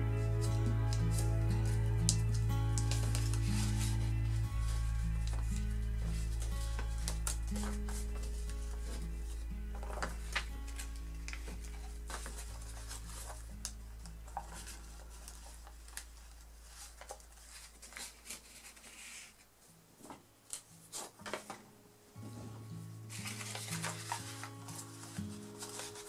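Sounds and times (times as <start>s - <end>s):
soft background music: 0.0s - 18.9s, 20.4s - 26.0s
paper crinkling and rustling: 0.0s - 22.3s, 23.1s - 26.0s.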